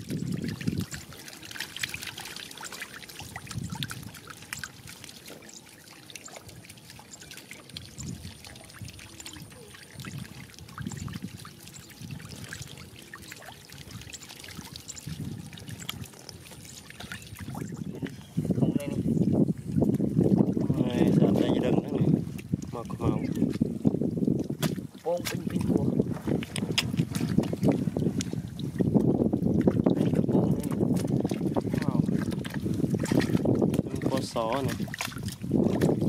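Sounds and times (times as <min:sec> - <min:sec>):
muddy water splashing: 0:00.0 - 0:36.0.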